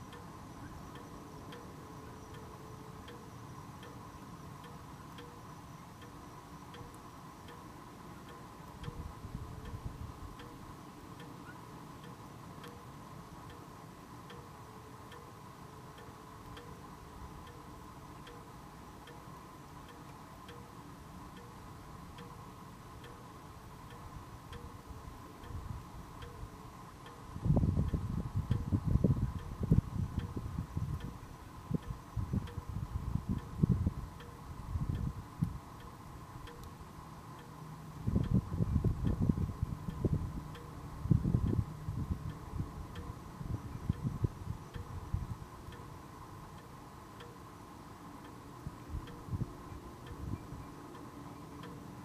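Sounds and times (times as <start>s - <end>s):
faint regular ticking: 0.0s - 52.0s.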